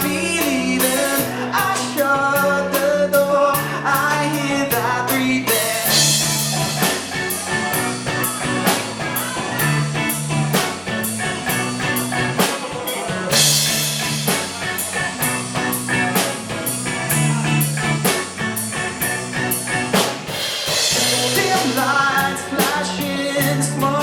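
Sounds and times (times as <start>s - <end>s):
drum kit beat: 0.0s - 24.0s
held bass and guitar notes: 0.0s - 24.0s.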